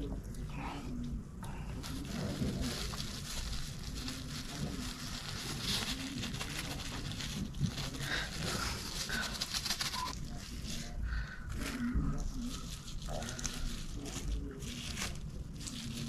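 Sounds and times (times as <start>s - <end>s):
plastic bag crinkling: 1.8s - 16.0s.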